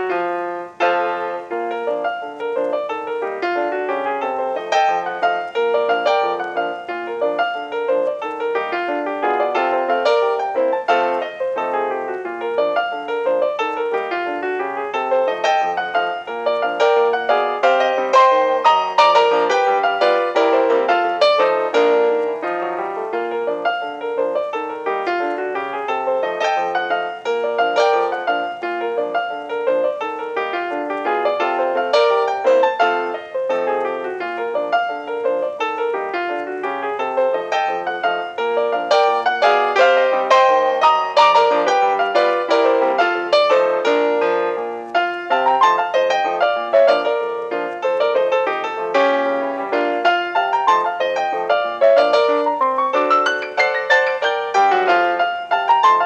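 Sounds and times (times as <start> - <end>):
piano music with quick notes: 0.0 - 56.0.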